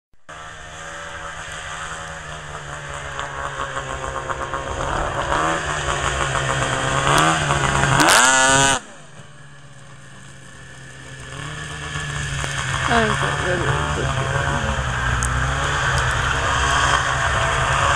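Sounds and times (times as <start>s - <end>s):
snowmobile engine revving: 0.3s - 17.9s.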